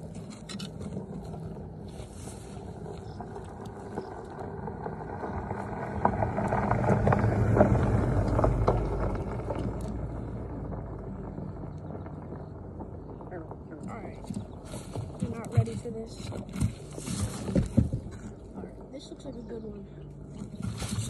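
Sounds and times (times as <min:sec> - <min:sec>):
truck driving on gravel: 0:00.0 - 0:21.0.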